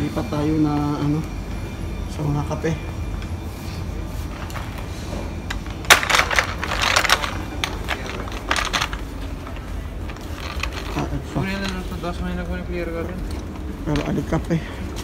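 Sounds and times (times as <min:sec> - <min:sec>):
supermarket background hum: 0:00.0 - 0:15.0.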